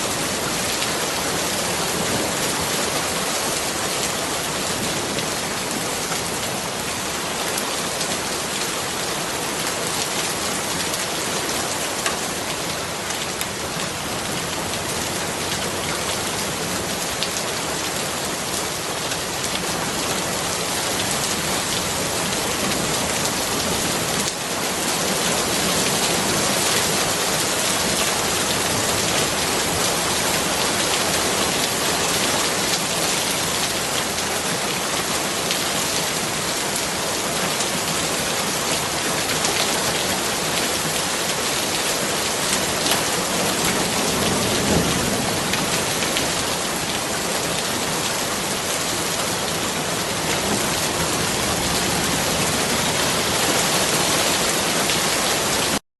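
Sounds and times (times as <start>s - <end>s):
steady rain falling: 0.0s - 55.8s.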